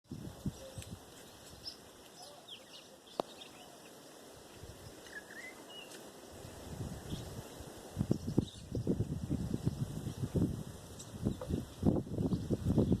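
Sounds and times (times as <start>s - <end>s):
faint steady hiss: 0.1s - 13.0s
birds chirping: 0.4s - 4.2s, 4.8s - 6.1s, 7.0s - 13.0s.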